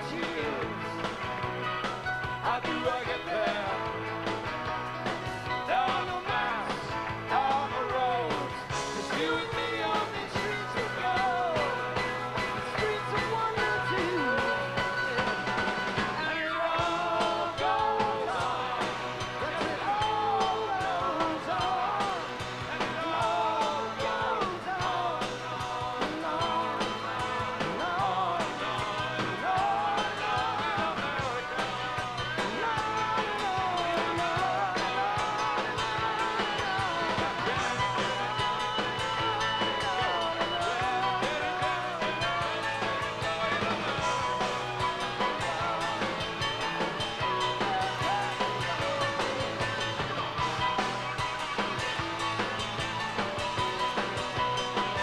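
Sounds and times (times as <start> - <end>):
lead vocal singing: 0.0 - 1.4, 2.0 - 52.0
live rock band playing: 0.0 - 55.0.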